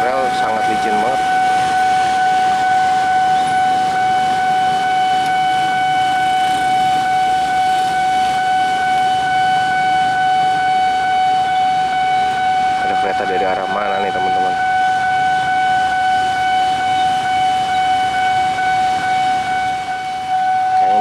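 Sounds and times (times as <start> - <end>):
level crossing alarm tone: 0.0 - 21.0
traffic noise: 0.0 - 21.0.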